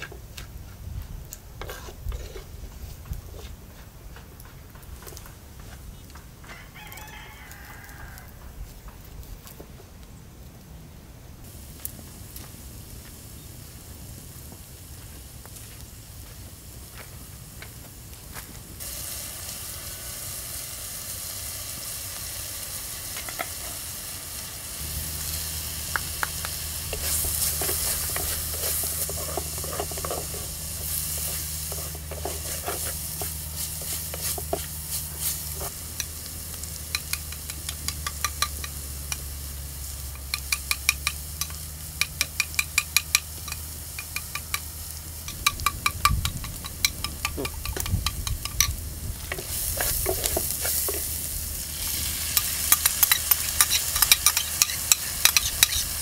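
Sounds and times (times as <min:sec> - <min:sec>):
greens sizzling in a pot: 0:01.0 - 0:03.5, 0:06.5 - 0:08.4, 0:11.4 - 0:56.0.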